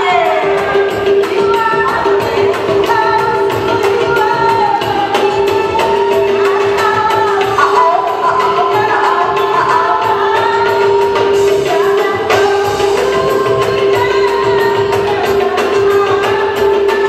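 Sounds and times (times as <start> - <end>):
live band music with singing: 0.0 - 17.0.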